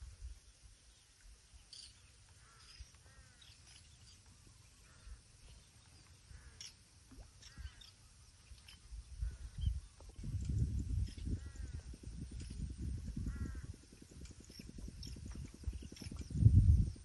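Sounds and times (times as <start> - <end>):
birds chirping and calling: 1.7 - 16.9.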